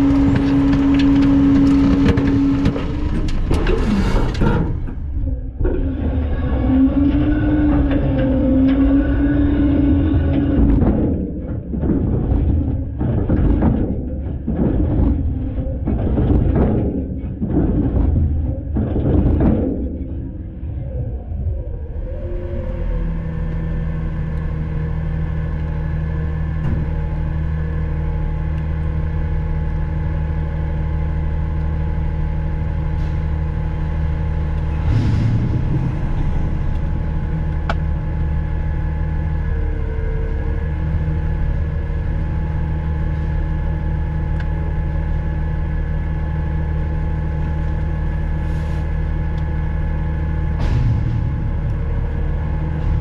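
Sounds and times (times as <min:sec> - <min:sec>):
garbage truck engine drone: 0:00.0 - 0:53.0.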